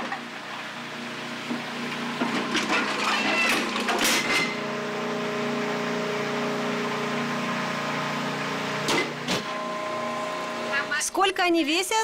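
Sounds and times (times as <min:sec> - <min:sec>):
hydraulic press motor hum: 0:00.0 - 0:10.7.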